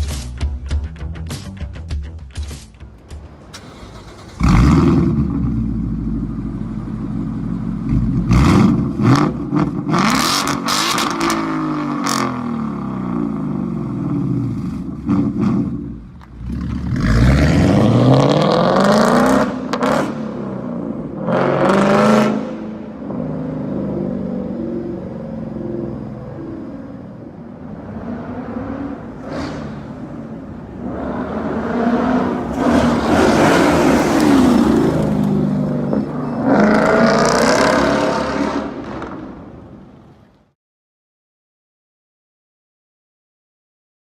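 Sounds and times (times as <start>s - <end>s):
car engine idling and revving: 0.0s - 40.5s.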